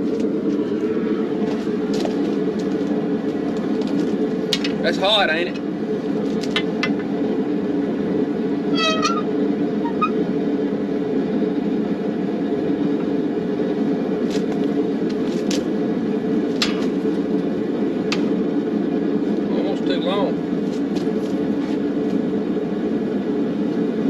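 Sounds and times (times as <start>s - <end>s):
gas forge burner rushing: 1.6s - 24.0s.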